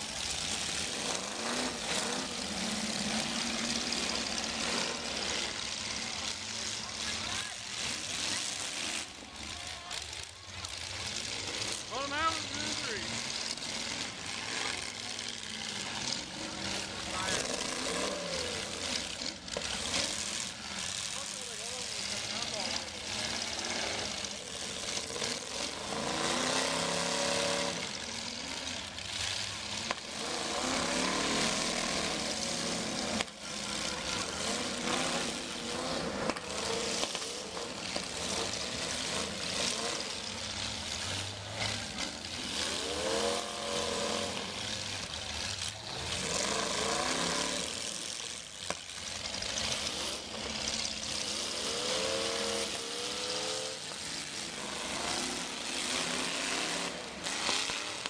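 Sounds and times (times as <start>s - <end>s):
car engines revving hard: 0.0s - 58.0s
din of many engines running: 0.0s - 58.0s.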